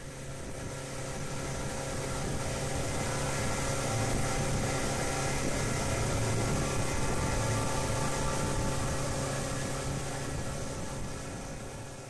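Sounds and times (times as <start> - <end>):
outboard motor running: 0.0 - 12.0
wind: 0.0 - 12.0.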